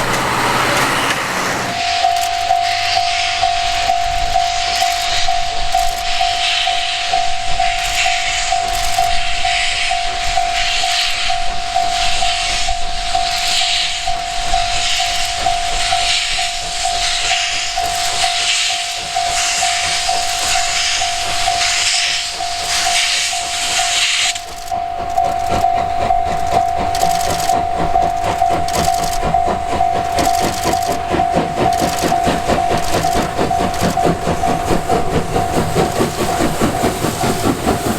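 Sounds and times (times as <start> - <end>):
steady high tone: 0.0 - 37.9
steam locomotive exhaust chuffing: 0.0 - 37.9.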